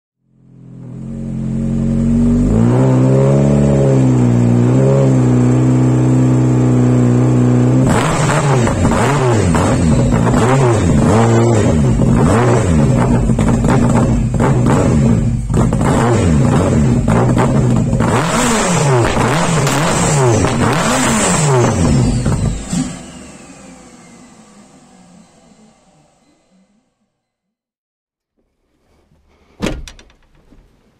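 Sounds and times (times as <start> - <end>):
car engine idling and revving: 0.2 - 27.3.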